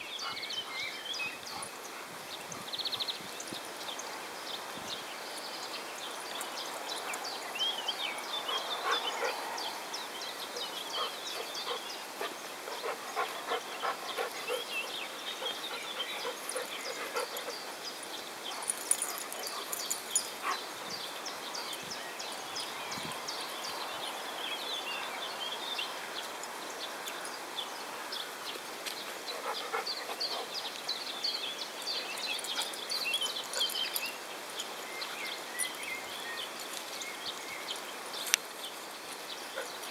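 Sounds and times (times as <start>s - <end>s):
small birds chirping: 0.0s - 39.9s
dogs playing on grass: 0.3s - 24.3s, 25.1s - 39.9s.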